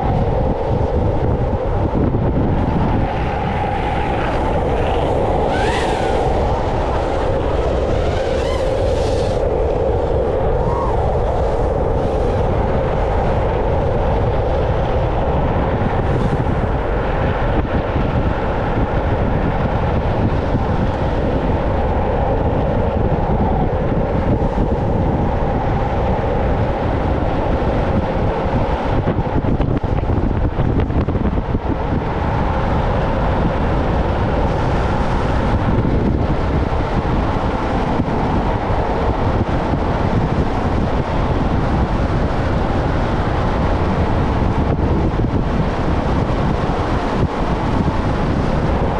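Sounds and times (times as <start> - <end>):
skateboard wheels rolling on asphalt: 0.0 - 48.9
wind buffeting microphone: 0.0 - 48.9.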